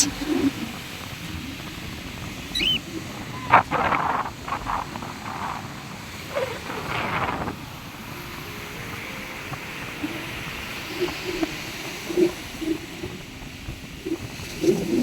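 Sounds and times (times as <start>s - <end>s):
wind and surf hiss: 0.0s - 15.0s.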